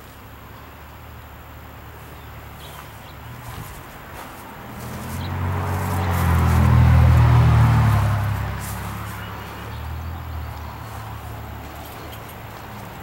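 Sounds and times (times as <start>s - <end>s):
vehicle driving past: 2.0s - 13.0s.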